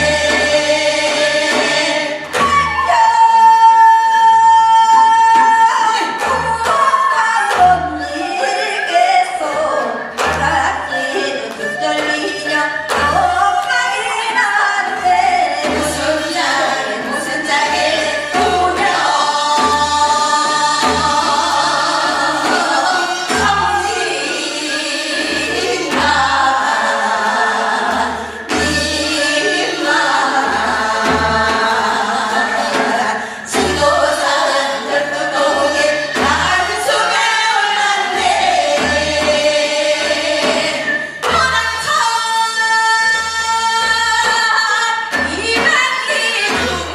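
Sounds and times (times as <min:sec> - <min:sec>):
group singing folk song in unison: 0:00.0 - 0:46.9.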